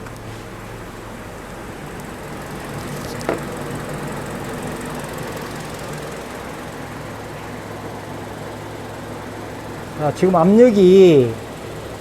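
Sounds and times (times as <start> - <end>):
car engine idling: 0.0 - 12.0
cooling fan hum: 0.0 - 12.0.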